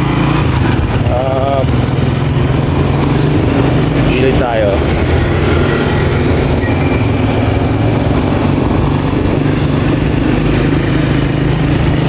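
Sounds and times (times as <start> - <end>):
road and traffic noise: 0.0 - 12.0
vehicle engine running: 0.0 - 12.0.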